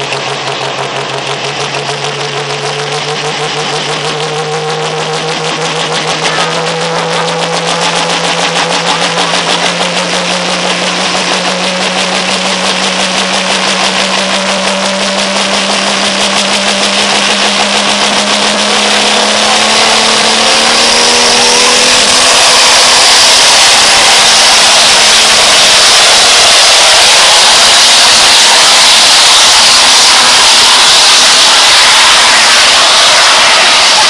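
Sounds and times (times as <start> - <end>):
strong hissing rush: 0.0 - 34.0
tractor diesel engine under load: 0.0 - 34.0.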